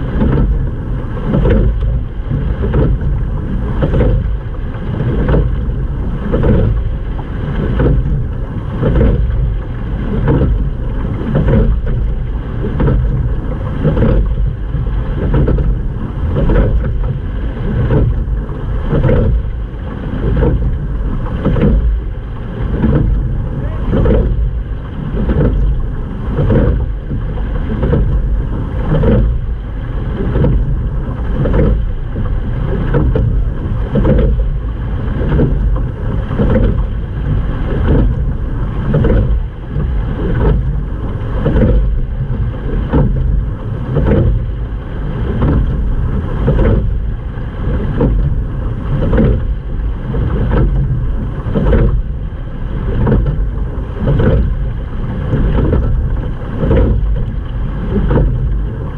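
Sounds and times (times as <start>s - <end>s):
steady low rumble: 0.0s - 58.9s
water rushing along boat bow: 0.0s - 58.9s.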